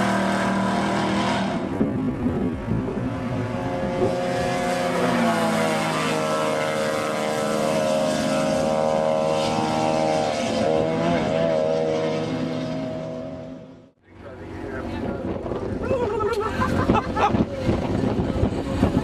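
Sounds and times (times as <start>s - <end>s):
engine running at high revs: 0.0s - 19.0s.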